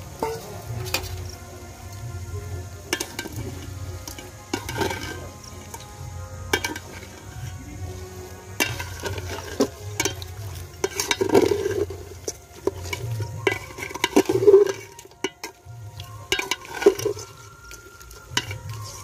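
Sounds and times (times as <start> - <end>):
meat sizzling: 0.0 - 19.0
metal spatula scraping a pot: 0.0 - 19.0.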